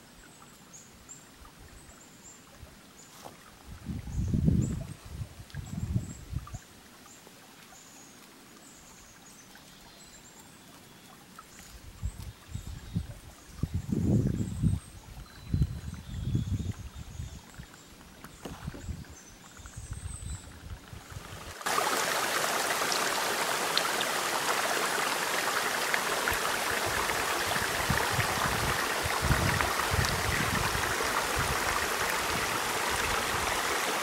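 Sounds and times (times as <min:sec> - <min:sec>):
brook flowing over rocks: 0:00.0 - 0:34.0.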